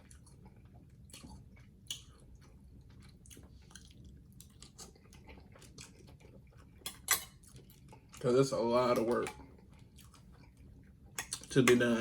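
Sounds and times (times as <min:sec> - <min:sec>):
close-up chewing: 0:00.0 - 0:11.9.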